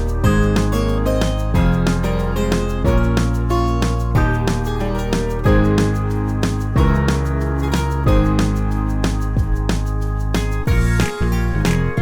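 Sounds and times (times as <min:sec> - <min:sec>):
plucked guitar tune with bass: 0:00.0 - 0:12.0.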